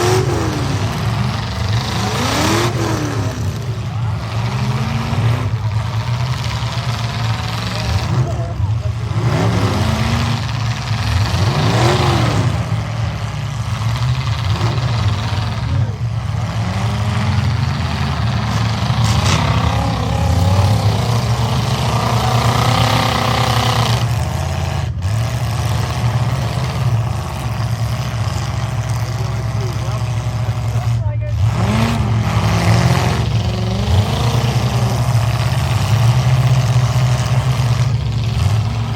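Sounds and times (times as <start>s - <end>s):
truck engines revving: 0.0s - 38.9s.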